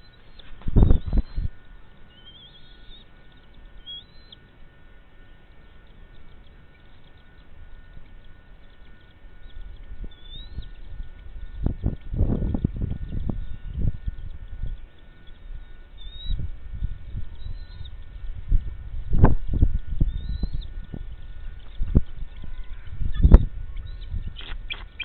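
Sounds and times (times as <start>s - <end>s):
bird chirps: 0.0s - 25.0s
low wind rumble on microphone: 0.0s - 25.0s.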